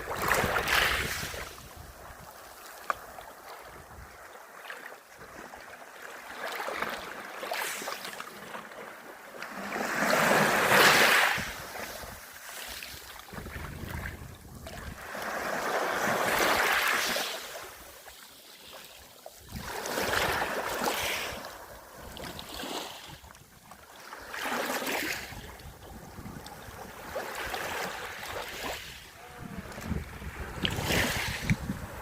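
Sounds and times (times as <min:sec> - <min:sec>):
sea waves washing on beach: 0:00.0 - 0:32.0.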